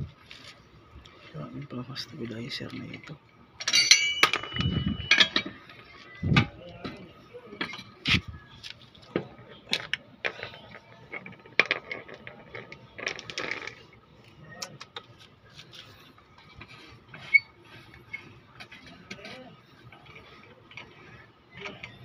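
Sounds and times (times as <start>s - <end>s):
rattling and scraping: 2.5s - 22.0s.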